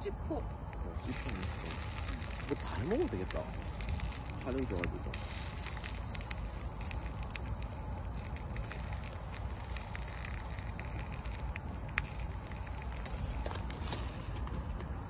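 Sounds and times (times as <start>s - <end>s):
firewood crackling and popping: 0.0s - 15.0s
low background noise: 0.0s - 15.0s.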